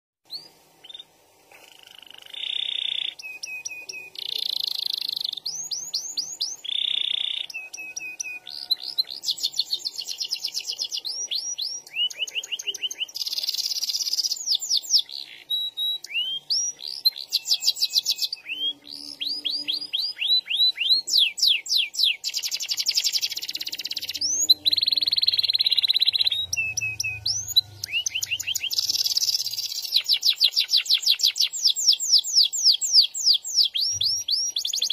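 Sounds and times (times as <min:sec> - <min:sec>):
canary singing trills: 0:00.3 - 0:34.9.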